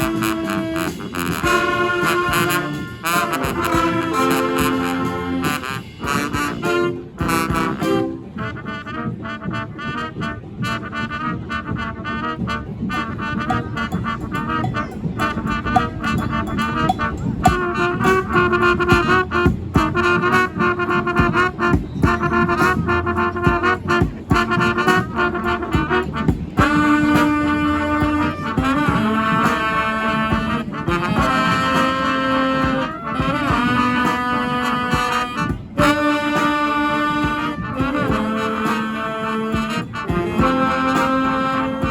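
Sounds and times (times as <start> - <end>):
brass band playing: 0.0 - 41.9.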